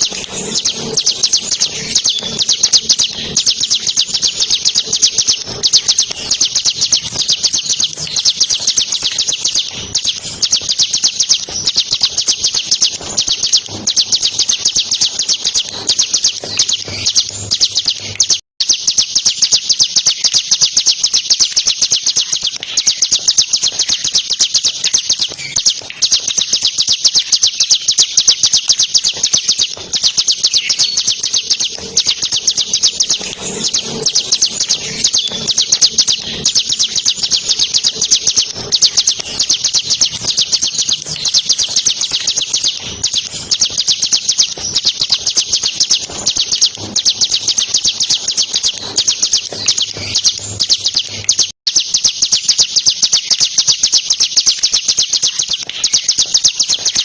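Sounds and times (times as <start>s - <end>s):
bird singing fast high notes: 0.0s - 57.0s.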